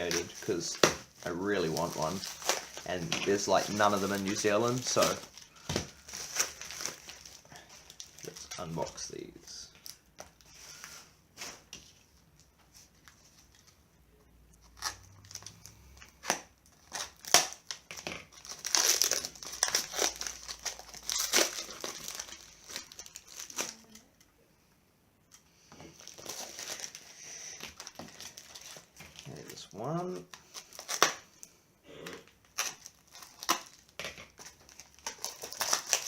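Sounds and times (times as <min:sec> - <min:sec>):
packaging crinkling and tearing: 0:00.0 - 0:13.8, 0:14.6 - 0:24.2, 0:25.9 - 0:31.5, 0:32.2 - 0:36.0.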